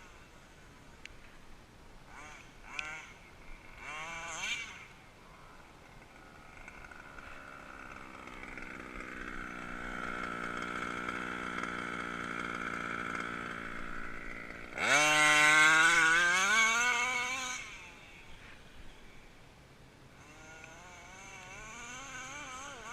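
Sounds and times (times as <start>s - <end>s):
rc car engine revving: 2.1s - 19.2s, 20.1s - 22.9s.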